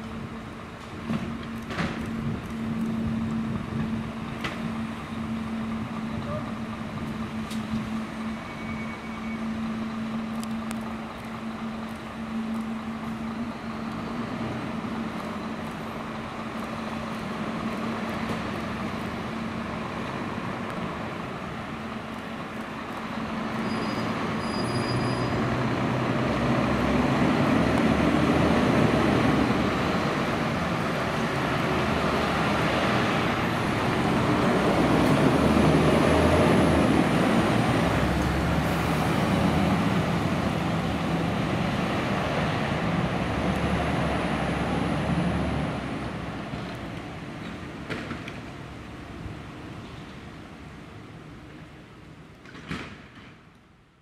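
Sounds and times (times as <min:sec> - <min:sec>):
diesel trucks accelerating: 0:00.0 - 0:51.6.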